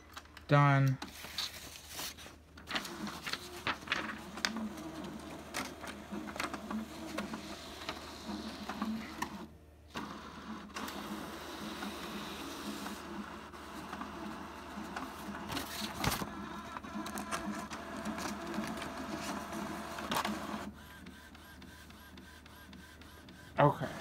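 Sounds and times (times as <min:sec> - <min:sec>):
inkjet printer clicking and whirring: 0:02.6 - 0:24.0.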